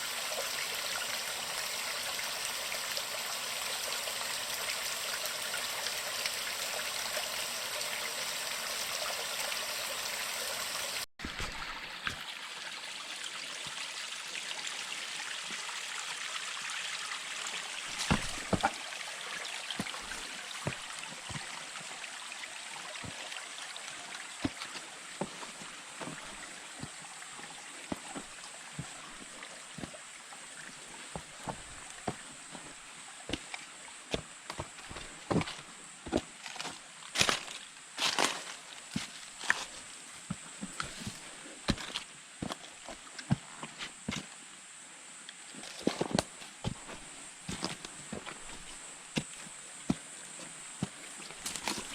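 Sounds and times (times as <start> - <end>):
stream water running: 0.0 - 51.9.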